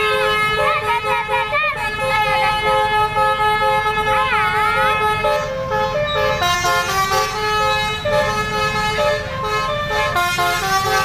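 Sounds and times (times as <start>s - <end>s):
multi-tone bus horn tune: 0.0s - 11.0s.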